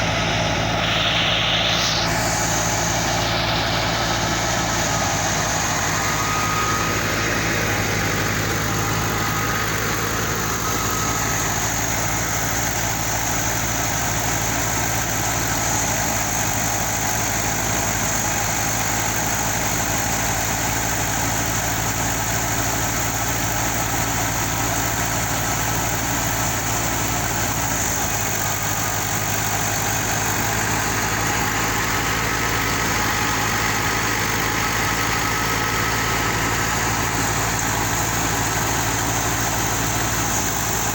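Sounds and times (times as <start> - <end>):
faint high machine whine: 0.0 - 40.9
thresher engine drone: 0.0 - 40.9.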